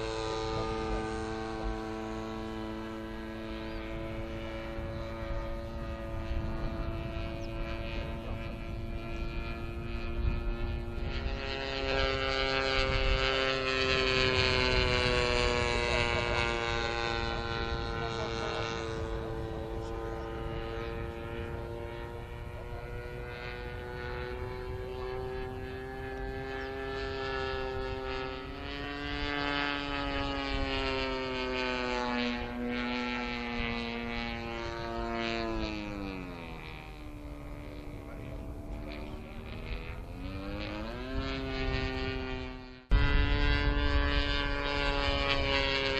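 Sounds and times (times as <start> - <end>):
model plane engine drone: 0.0 - 45.9.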